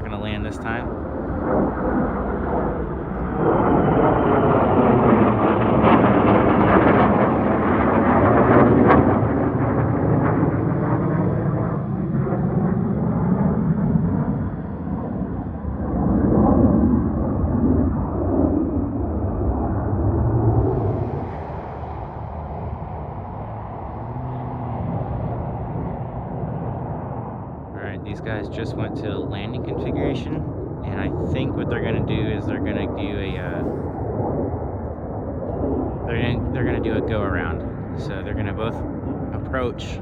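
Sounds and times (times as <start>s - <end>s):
fighter jets roaring past: 0.0s - 40.0s.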